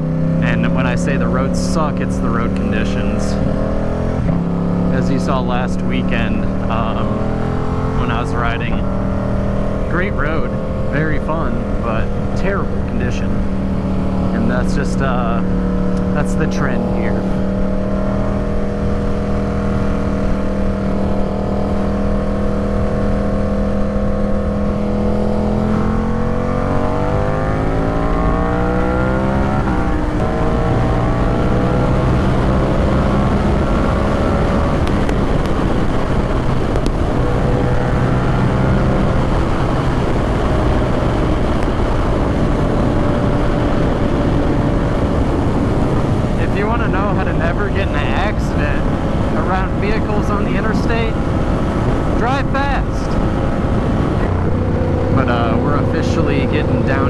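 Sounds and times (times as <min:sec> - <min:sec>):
motorcycle engine revving: 0:00.0 - 0:57.0
wind noise: 0:02.7 - 0:57.0.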